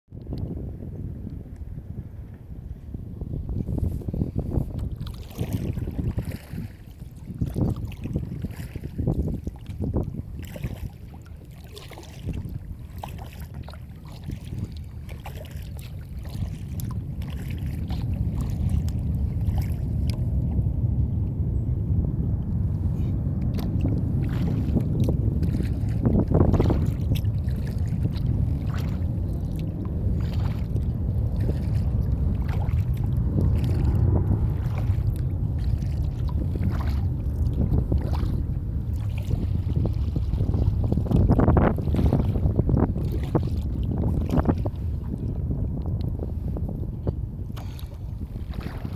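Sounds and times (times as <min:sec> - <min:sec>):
wind buffeting microphone: 0:00.1 - 0:48.9
paddle splashes and drips: 0:03.9 - 0:20.7, 0:22.9 - 0:46.2, 0:47.0 - 0:48.9.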